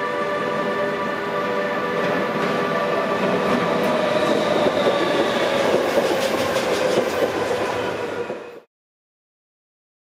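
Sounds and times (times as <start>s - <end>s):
train whine: 0.0s - 8.7s.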